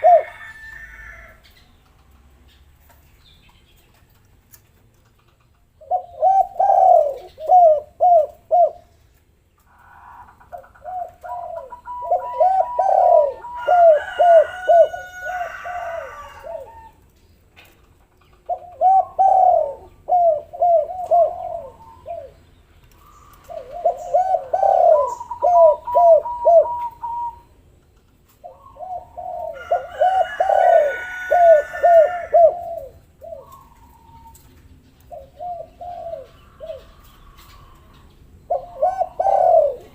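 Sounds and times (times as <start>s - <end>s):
doves cooing: 0.0s - 2.4s, 5.0s - 39.9s
small birds chirping: 0.0s - 39.9s.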